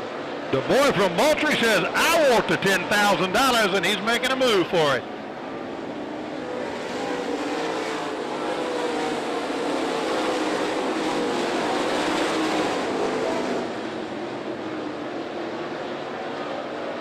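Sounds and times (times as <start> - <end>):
race car engines at full throttle: 0.0 - 17.0.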